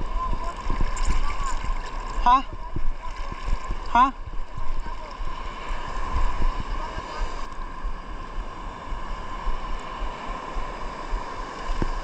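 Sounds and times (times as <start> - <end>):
water noise: 0.0 - 12.0
wind buffeting microphone: 0.0 - 12.0.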